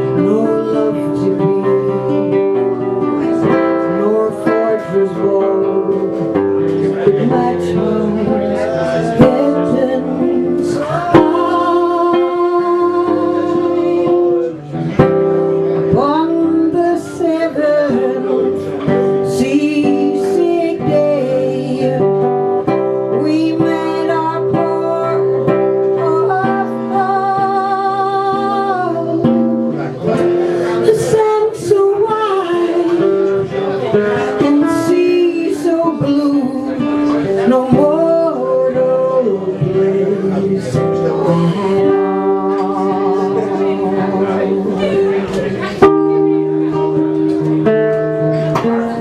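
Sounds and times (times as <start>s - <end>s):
acoustic guitar: 0.0s - 49.0s
person singing: 0.0s - 49.0s.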